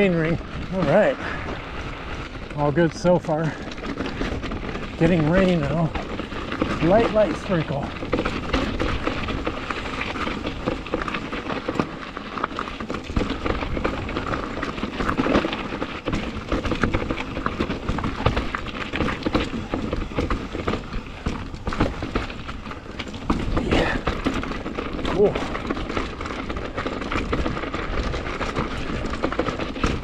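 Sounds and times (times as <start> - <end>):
bike frame and chain rattling: 0.0 - 30.0
bike tyres hammering over rock: 0.0 - 30.0.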